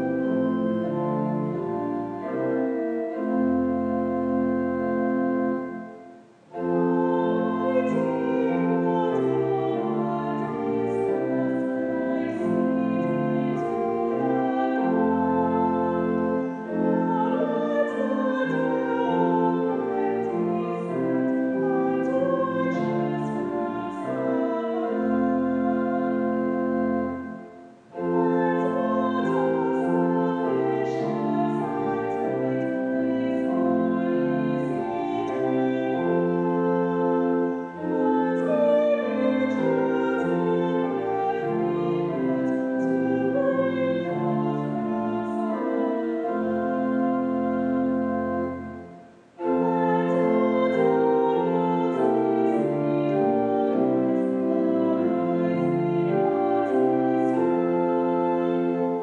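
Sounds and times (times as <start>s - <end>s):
instrumental accompaniment: 0.0s - 59.0s
slow hymn singing: 0.0s - 59.0s.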